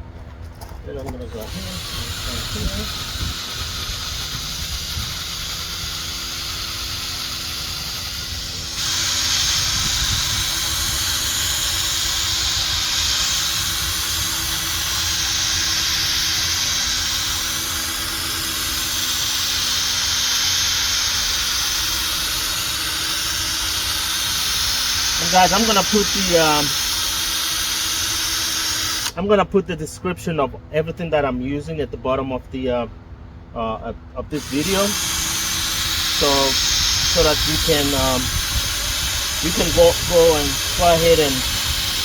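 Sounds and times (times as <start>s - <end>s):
drill motor hum: 1.1s - 29.2s, 34.2s - 42.0s
sanding hiss: 1.5s - 29.2s, 34.4s - 42.0s.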